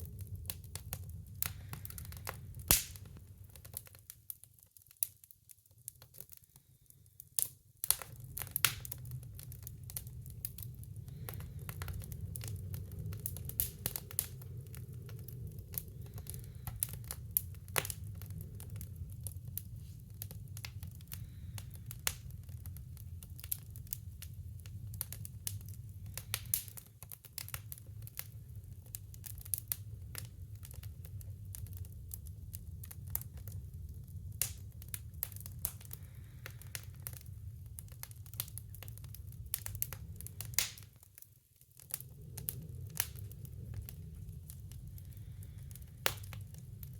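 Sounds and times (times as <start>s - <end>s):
fire crackling in wood stove: 0.0s - 46.9s.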